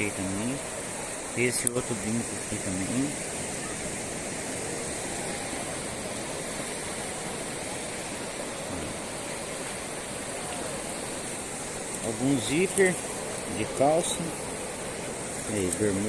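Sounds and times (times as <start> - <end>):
surf washing: 0.0 - 16.0
wind: 0.0 - 16.0.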